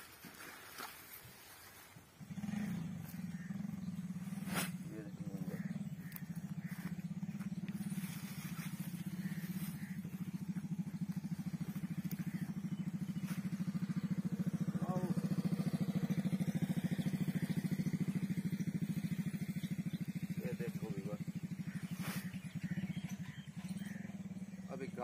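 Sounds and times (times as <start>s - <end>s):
small engine running: 2.2s - 25.0s.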